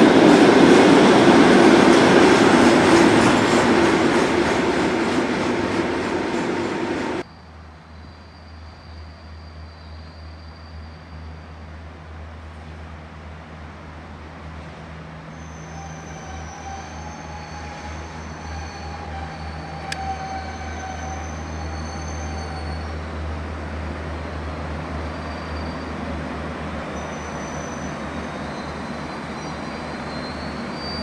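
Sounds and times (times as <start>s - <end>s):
train engine hum and rolling: 0.0s - 31.0s.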